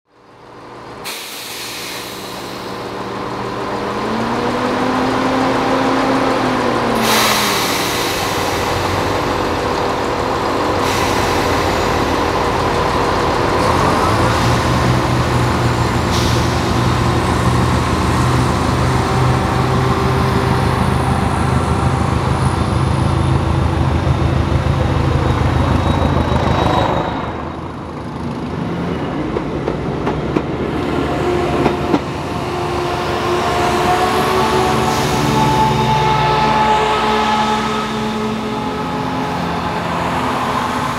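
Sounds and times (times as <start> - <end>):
diesel train engine running: 0.1 - 40.9.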